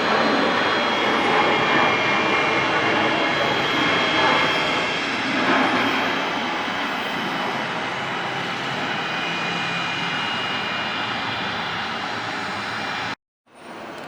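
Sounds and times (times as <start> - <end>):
jet airliner engines running: 0.0 - 14.0.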